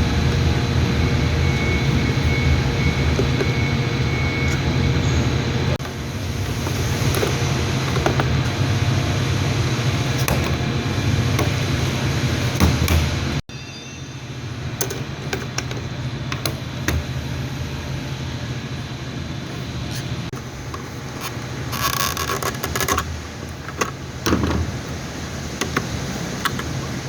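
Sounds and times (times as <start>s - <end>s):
machine humming: 0.0s - 21.7s.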